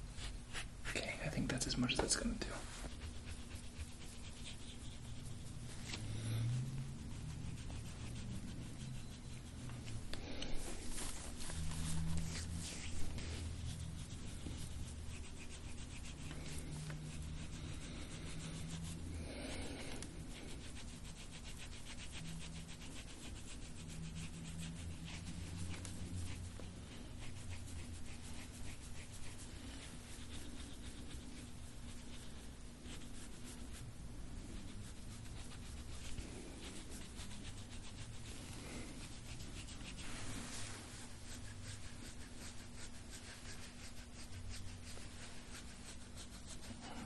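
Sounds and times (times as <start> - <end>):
scraping tool rubbing on skin: 0.0 - 47.0
steady low hum: 0.0 - 47.0.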